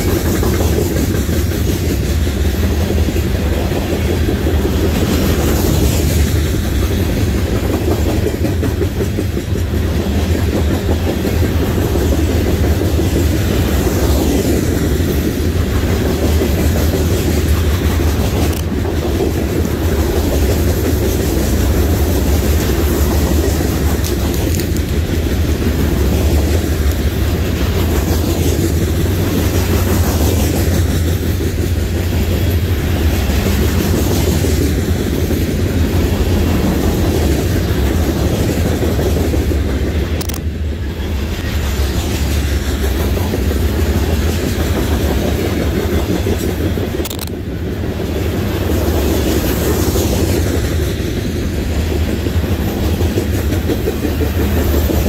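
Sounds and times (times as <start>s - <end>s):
freight cars rumbling on steel wheels: 0.0s - 55.0s.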